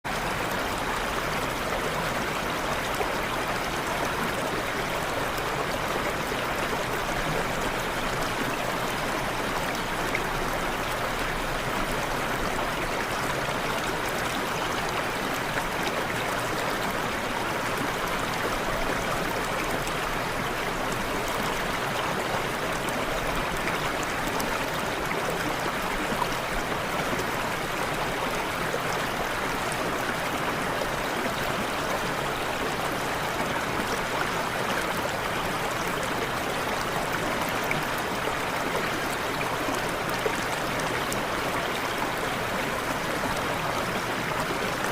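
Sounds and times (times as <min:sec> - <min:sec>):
running water: 0:00.1 - 0:44.9.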